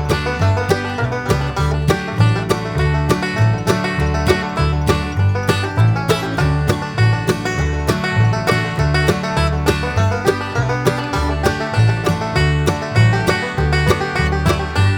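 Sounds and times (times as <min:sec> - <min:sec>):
upbeat bluegrass music: 0:00.0 - 0:14.9.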